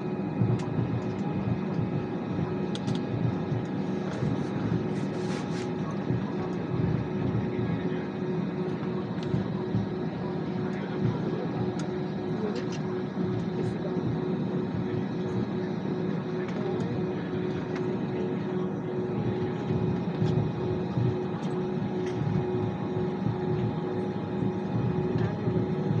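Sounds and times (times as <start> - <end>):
jet engine cabin hum: 0.0 - 26.0.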